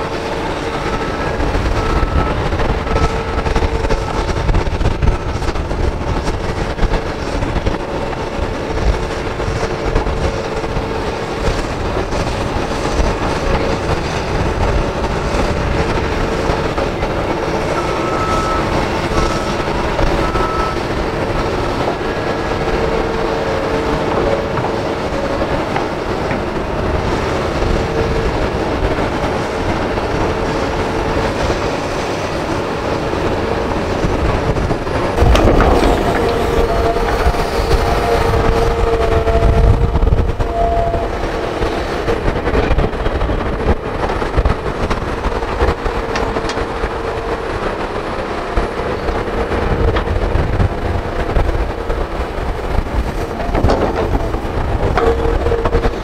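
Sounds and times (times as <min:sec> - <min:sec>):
excavator diesel rumble with whine: 0:00.0 - 0:56.0.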